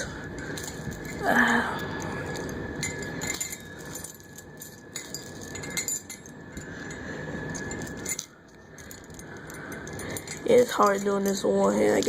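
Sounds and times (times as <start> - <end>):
metal chain clinking and rattling: 0.0 - 12.0.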